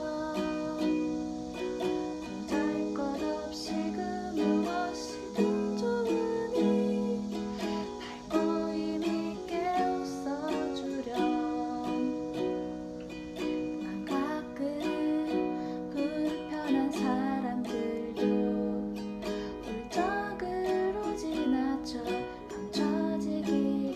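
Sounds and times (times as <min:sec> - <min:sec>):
ukulele playing: 0:00.0 - 0:23.9.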